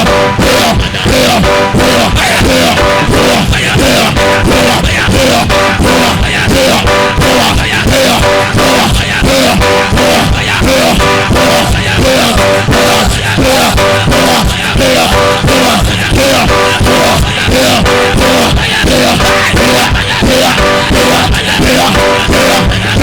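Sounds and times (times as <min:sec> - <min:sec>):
loud band music with guitar: 0:00.0 - 0:23.0.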